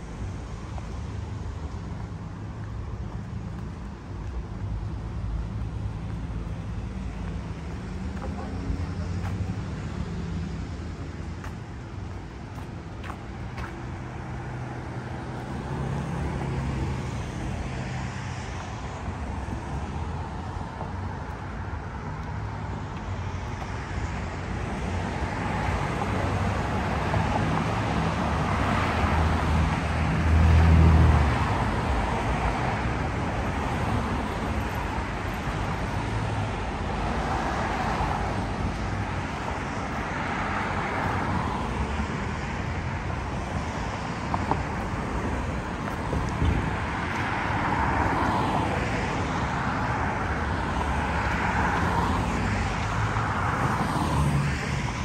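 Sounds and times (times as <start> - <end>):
cars driving past: 0.0 - 55.0.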